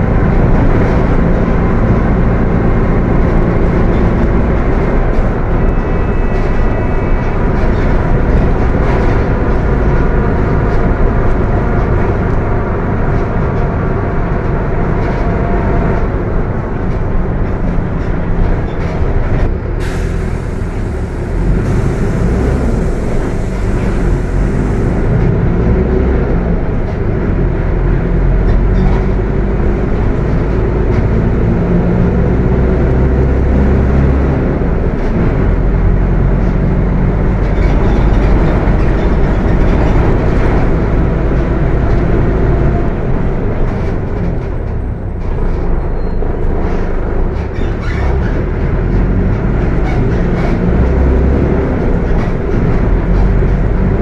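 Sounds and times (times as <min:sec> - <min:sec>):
diesel bus engine rumble: 0:00.0 - 0:54.0.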